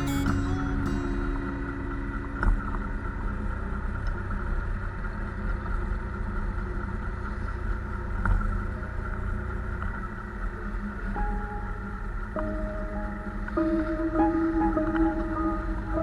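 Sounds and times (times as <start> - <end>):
road rumble: 0.0 - 16.0
wind: 0.0 - 16.0.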